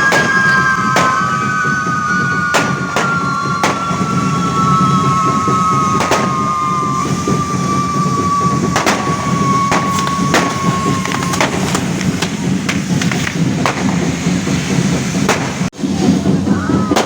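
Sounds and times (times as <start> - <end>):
firework bangs: 0.0 - 17.0
firework whistle: 0.0 - 17.0
low rumble: 0.0 - 17.0.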